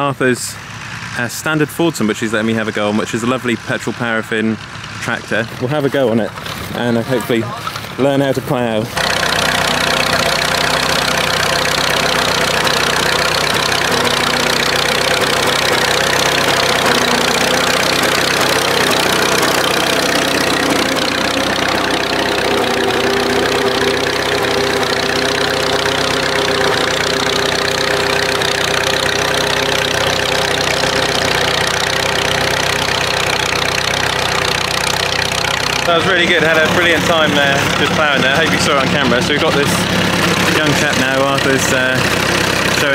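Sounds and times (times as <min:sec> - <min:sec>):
tractor engine under load: 0:00.0 - 0:42.9.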